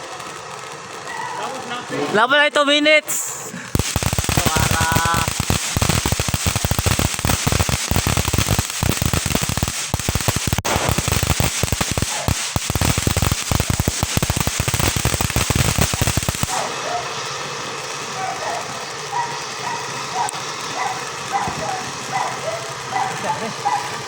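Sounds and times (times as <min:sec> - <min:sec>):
sharp firework crack: 0:00.0 - 0:02.2, 0:02.9 - 0:24.0
firework fountain crackling: 0:00.0 - 0:24.0.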